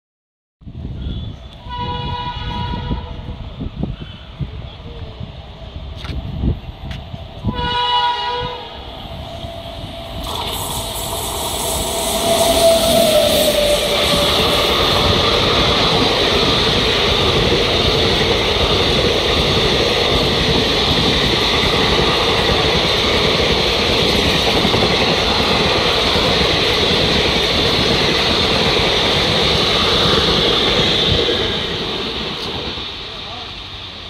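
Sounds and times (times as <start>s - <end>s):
train wheels rushing on rails: 0.8s - 34.0s.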